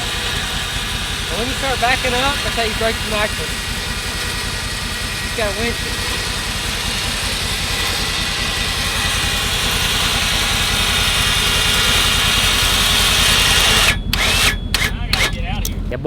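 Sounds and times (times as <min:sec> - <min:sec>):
high even whine: 0:00.0 - 0:16.0
vehicle engine idling: 0:00.0 - 0:16.0.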